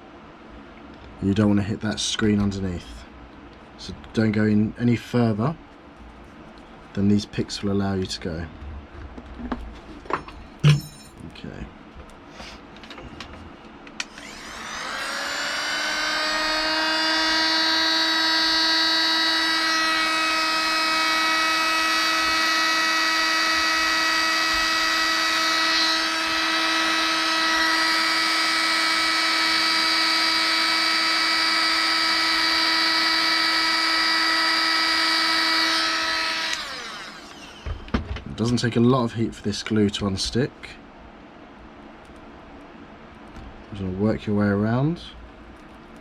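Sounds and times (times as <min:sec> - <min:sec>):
heat gun fan whining: 0:00.0 - 0:46.0.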